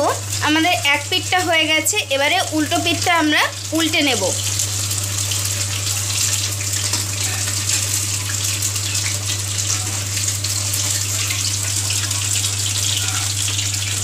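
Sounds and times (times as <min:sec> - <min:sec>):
deep-frying sizzle with crackles: 0:00.0 - 0:14.0.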